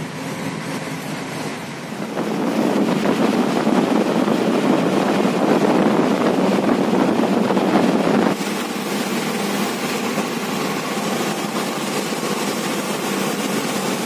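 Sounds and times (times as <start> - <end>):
bus engine and road noise: 0.0 - 14.0
wind noise from bus window: 0.0 - 14.0.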